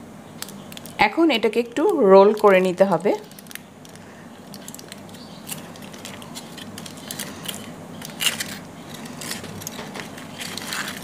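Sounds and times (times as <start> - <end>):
foil crinkling: 0.4 - 11.0.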